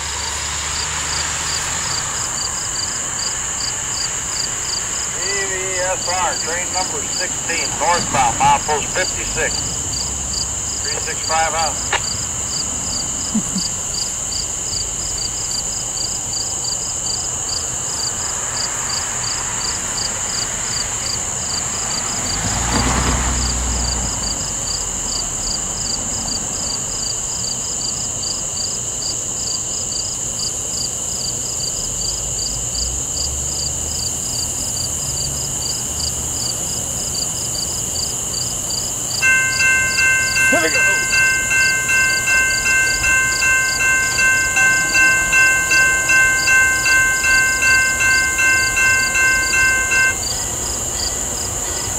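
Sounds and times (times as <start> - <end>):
vehicle passing: 0.0 - 15.5, 17.7 - 26.9, 33.3 - 51.9
crickets chirping: 0.0 - 51.9
high insect drone: 0.0 - 51.9.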